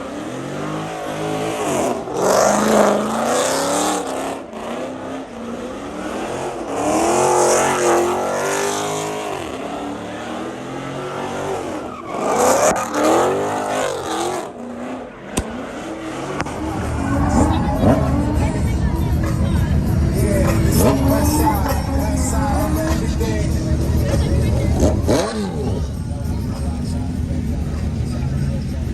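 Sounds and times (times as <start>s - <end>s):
car engine revving: 0.0s - 28.9s
tires squealing: 0.0s - 28.9s.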